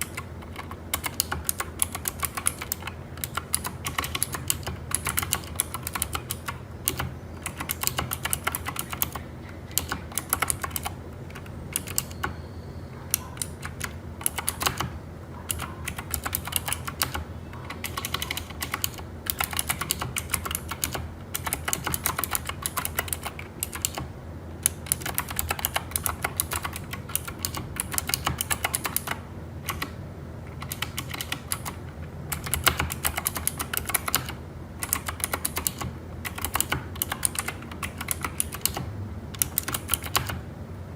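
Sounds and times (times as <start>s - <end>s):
mechanical keyboard key clicks: 0.0s - 12.4s, 13.1s - 40.4s.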